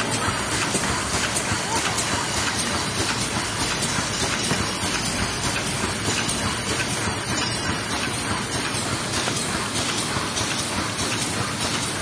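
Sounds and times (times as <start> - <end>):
constant machine hiss: 0.0 - 12.0
packing machine clattering: 0.0 - 12.0.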